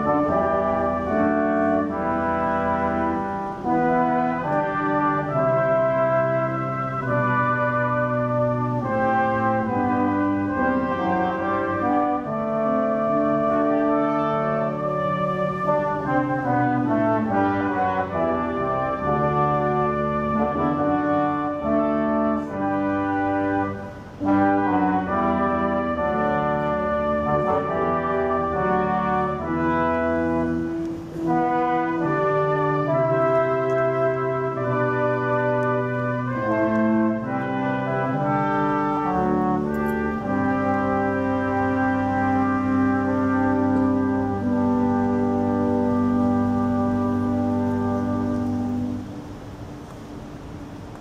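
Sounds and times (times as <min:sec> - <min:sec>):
brass ensemble playing held chords: 0:00.0 - 0:51.0.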